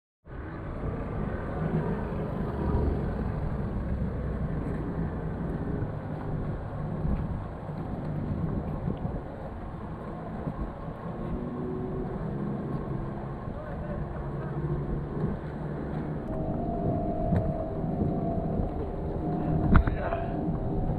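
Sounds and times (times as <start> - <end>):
low harbour rumble: 0.3 - 20.9
outboard motors running: 2.1 - 20.9.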